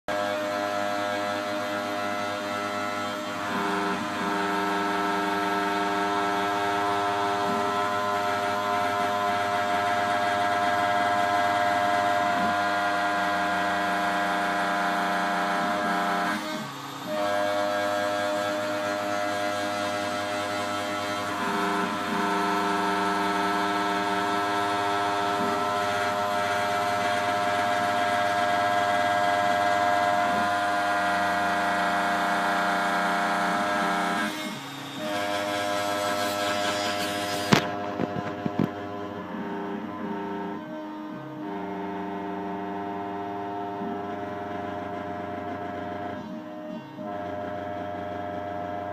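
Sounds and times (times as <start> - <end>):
cnc router motor whine: 0.1 - 48.9.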